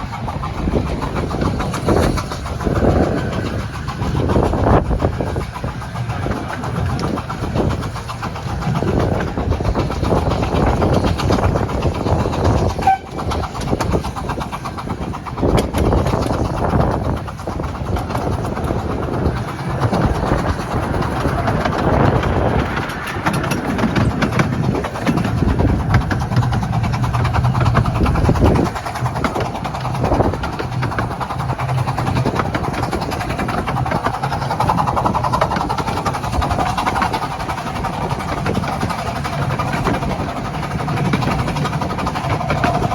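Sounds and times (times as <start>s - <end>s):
carriage rumble: 0.0s - 42.9s
wheels clattering over rails: 0.0s - 42.9s.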